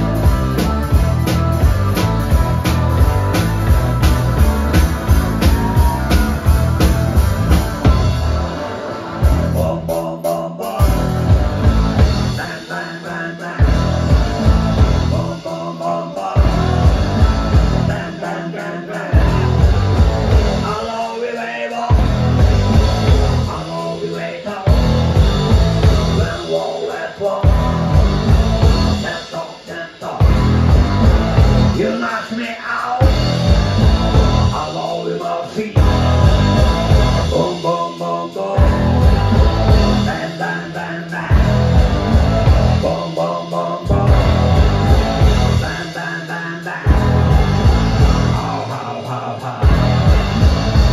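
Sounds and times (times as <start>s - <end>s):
man singing: 0.0s - 8.3s, 9.2s - 50.9s
electric bass: 0.0s - 12.7s, 13.6s - 15.6s, 16.2s - 18.3s, 18.9s - 20.9s, 21.9s - 29.3s, 30.2s - 32.1s, 33.0s - 34.8s, 35.6s - 46.0s, 46.8s - 48.8s, 49.4s - 50.9s
drum kit: 0.0s - 50.9s
electric guitar: 0.0s - 50.9s.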